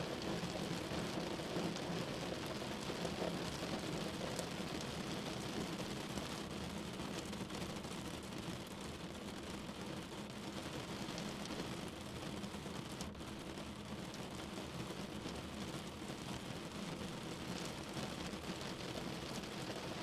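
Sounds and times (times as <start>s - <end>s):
rain on a window: 0.0s - 20.0s.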